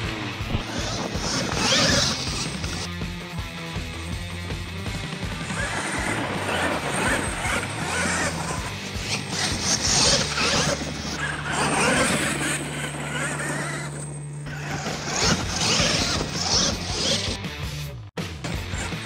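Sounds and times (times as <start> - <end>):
remote control trucks drivetrain whining: 0.0 - 2.9, 3.9 - 17.5, 18.5 - 19.0.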